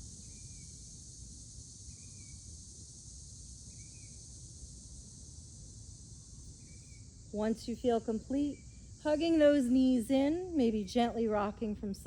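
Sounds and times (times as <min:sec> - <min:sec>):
insect chorus hiss: 0:00.0 - 0:12.0.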